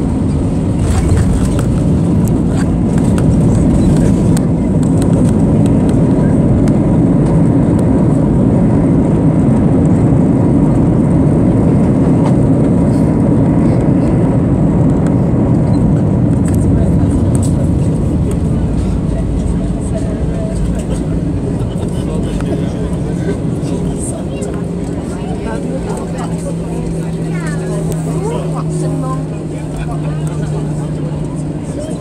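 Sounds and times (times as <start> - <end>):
engine and wheel rumble: 0.0 - 32.0.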